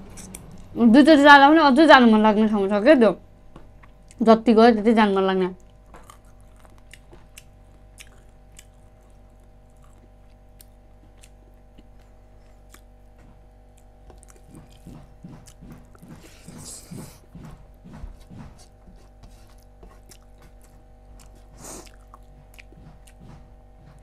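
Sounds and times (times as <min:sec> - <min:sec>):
person chewing food: 0:00.0 - 0:00.8, 0:03.6 - 0:04.2, 0:05.6 - 0:24.0
faint steady hum: 0:00.0 - 0:24.0.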